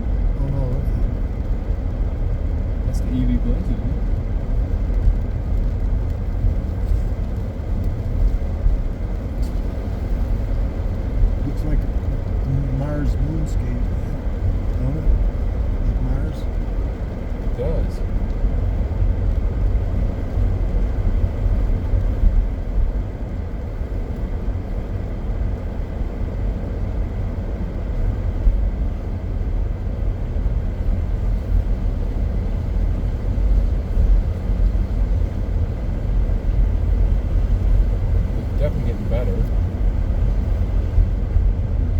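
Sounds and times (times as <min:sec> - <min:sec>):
car interior road rumble: 0:00.0 - 0:41.9.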